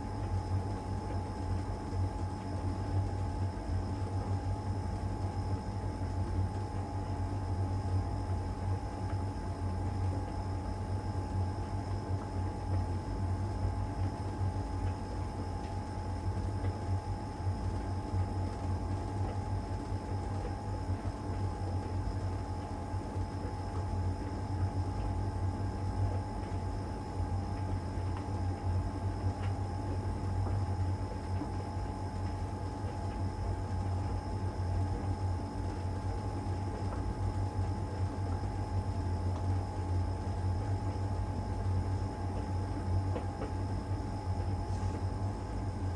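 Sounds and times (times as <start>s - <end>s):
dryer drum whine: 0.0s - 45.9s.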